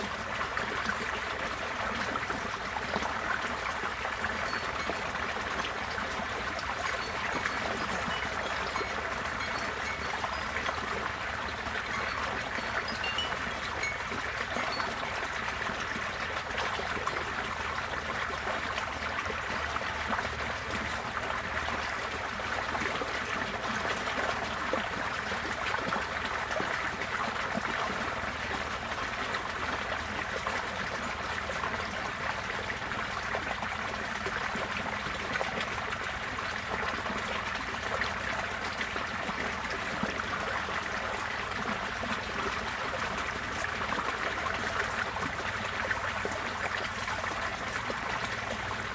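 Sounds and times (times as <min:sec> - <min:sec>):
floodwater rushing and trickling: 0:00.0 - 0:48.9.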